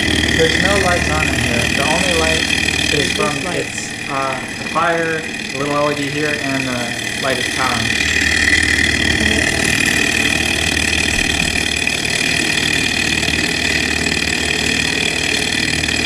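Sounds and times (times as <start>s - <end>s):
steady high whine: 0.0s - 16.0s
stirling engine mechanical chatter: 0.0s - 16.0s.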